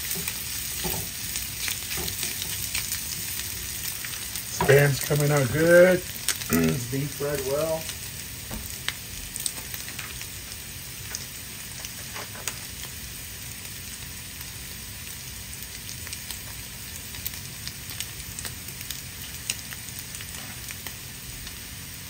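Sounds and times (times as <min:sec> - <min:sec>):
food sizzling in skillet: 0:00.0 - 0:22.0.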